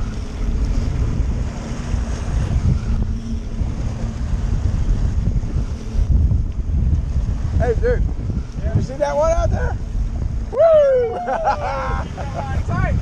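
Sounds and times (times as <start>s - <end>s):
rush of water from boat wake: 0.0s - 13.0s
wind buffeting microphone: 0.0s - 13.0s.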